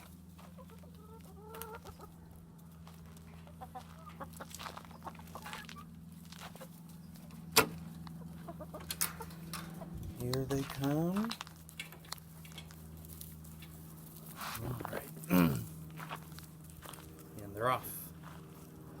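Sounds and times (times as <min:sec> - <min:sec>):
chickens clucking: 0:00.0 - 0:17.8
steady low hum: 0:00.0 - 0:19.0.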